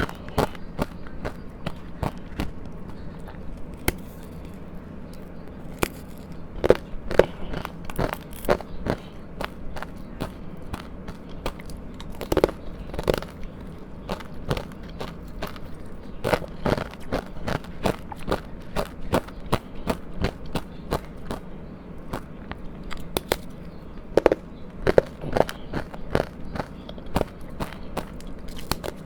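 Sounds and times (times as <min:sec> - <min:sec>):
ice crunching being chewed: 0:00.0 - 0:29.0.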